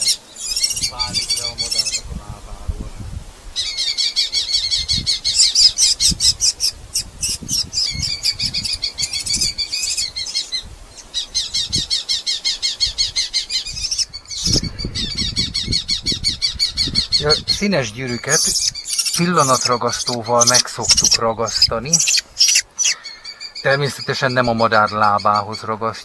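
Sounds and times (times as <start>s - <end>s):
falcons chattering: 0.0s - 2.7s, 3.6s - 26.0s.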